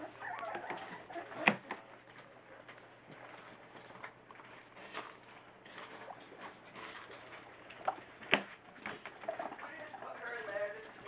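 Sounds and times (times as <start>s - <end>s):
puppies squeaking and grunting: 0.0s - 11.0s.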